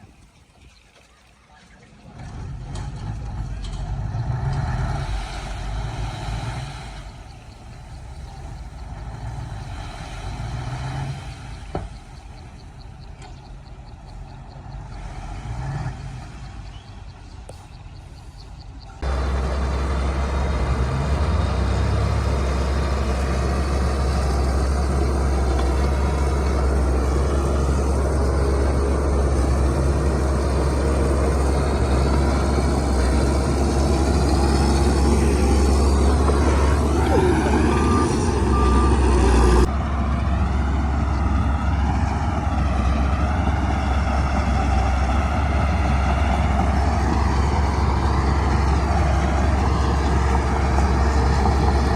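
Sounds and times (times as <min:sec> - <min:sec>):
diesel machinery engine drone: 0:02.0 - 0:51.9.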